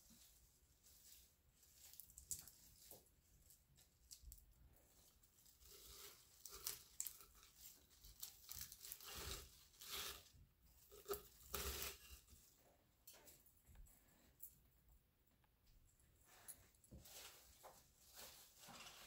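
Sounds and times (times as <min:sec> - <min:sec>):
flower stems rustling and crackling: 0:00.0 - 0:14.8, 0:15.7 - 0:19.0.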